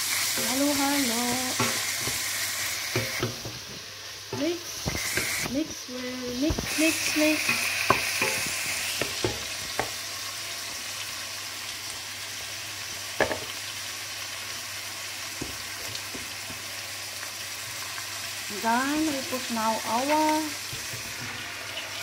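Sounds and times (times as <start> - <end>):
food sizzling in a pot: 0.0 - 22.0.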